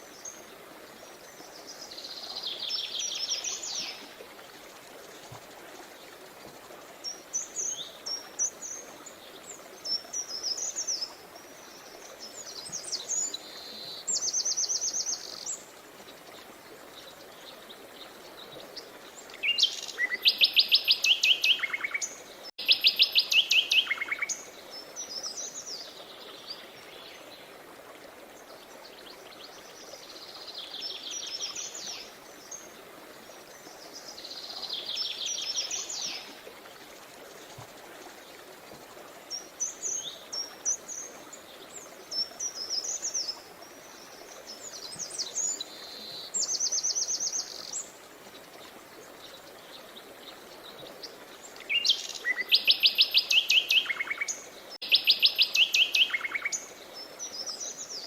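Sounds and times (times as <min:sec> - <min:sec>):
rushing stream: 0:00.0 - 0:58.0
songbirds chirping: 0:00.0 - 0:58.0.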